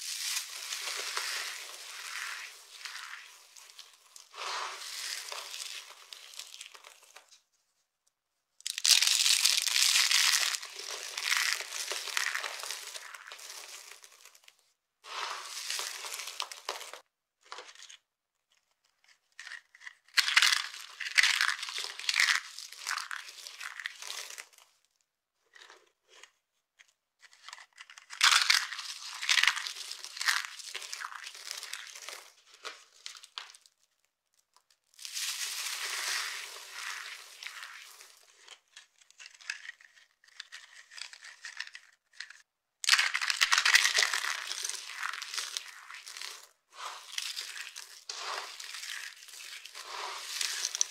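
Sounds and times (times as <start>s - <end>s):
soap flakes crunching: 0.0s - 7.4s, 8.6s - 14.5s, 15.1s - 17.0s, 19.4s - 24.7s, 27.8s - 50.9s.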